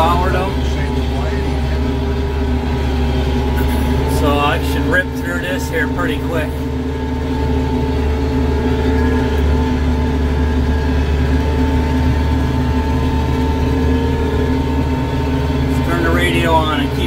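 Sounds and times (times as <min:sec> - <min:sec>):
tractor diesel engine droning: 0:00.0 - 0:17.0.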